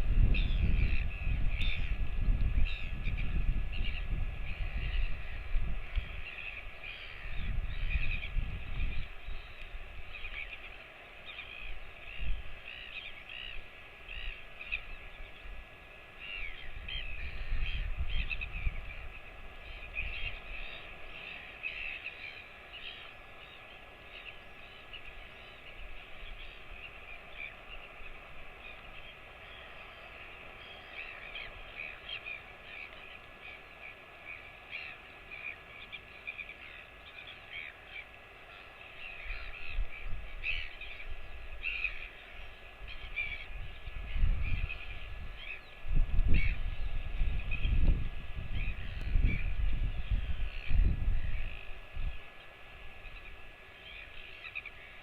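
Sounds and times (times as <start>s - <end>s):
birds chirping: 0.0s - 55.0s
rain hiss: 3.4s - 55.0s.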